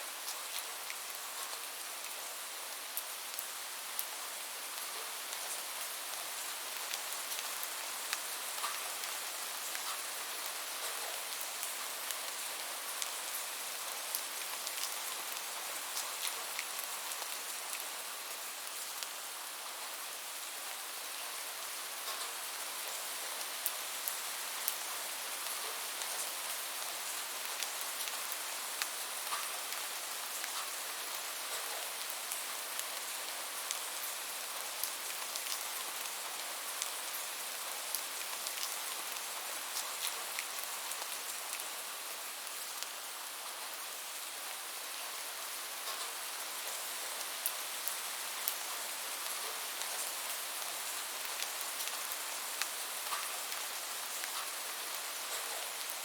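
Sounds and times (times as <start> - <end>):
steady rain hiss: 0.0 - 56.0
raindrops ticking on a surface: 0.2 - 2.3, 2.9 - 56.0.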